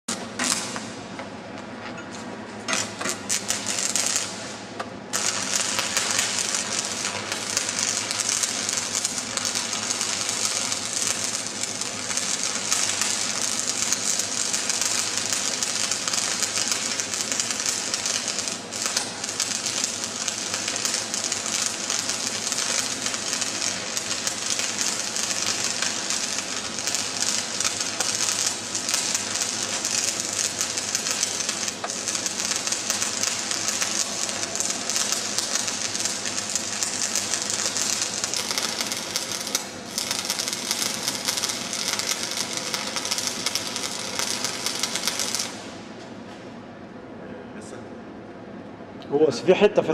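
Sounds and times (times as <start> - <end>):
welding arc crackling: 0.1 - 0.9, 2.6 - 45.7.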